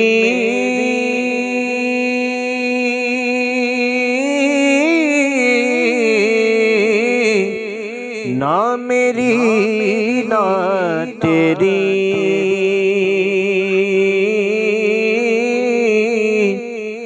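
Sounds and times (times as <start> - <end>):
person singing long ornamented vowel: 0.0 - 17.0.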